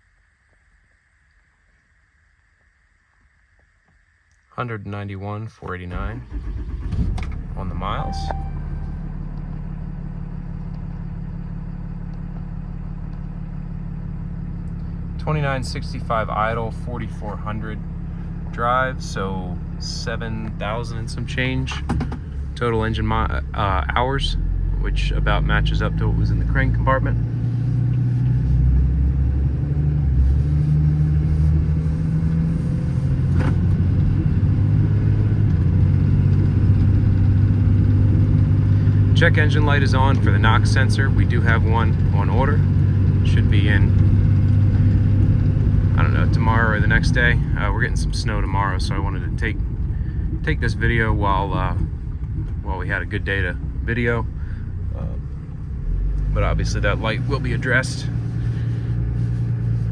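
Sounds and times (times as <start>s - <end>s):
diesel engine running: 5.6s - 59.9s.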